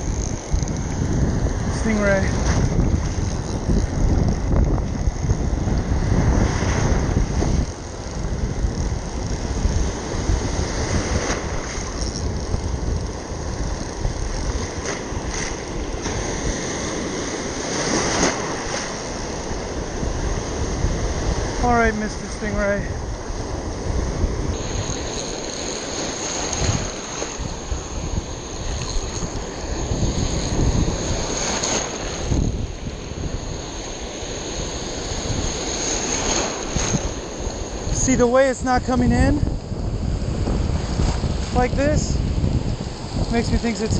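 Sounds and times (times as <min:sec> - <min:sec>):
surf washing: 0:00.0 - 0:43.9
wind buffeting microphone: 0:00.0 - 0:43.9.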